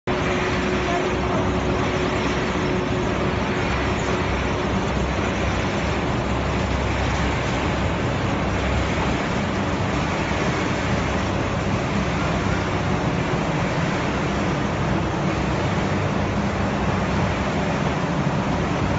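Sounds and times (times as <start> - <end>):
machinery rushing drone: 0.1 - 18.9.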